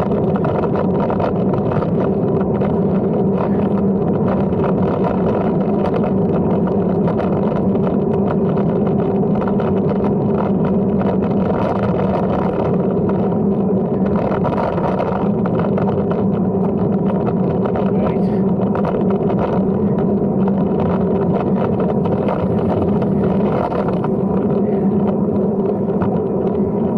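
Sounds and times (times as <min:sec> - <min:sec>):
bicycle tyre and wind rumble: 0:00.0 - 0:26.9.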